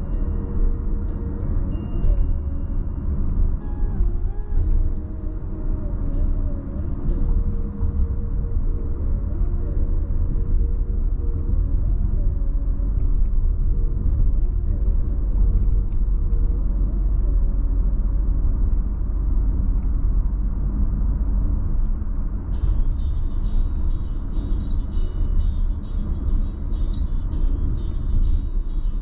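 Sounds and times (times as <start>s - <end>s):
car cabin road and engine rumble: 0.0s - 29.0s
faint hum: 0.0s - 29.0s.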